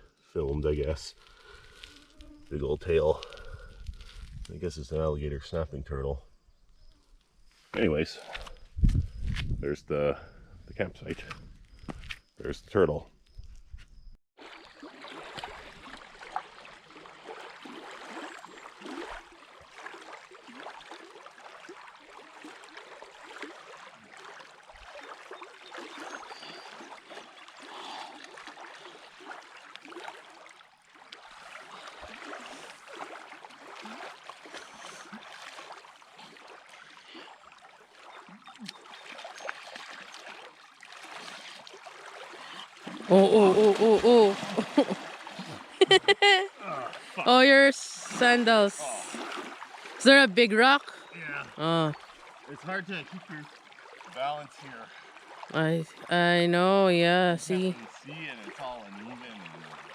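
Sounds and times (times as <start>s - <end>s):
lake water lapping: 0.0s - 4.3s, 14.4s - 59.9s
small water splashes: 1.1s - 4.5s, 14.4s - 59.9s.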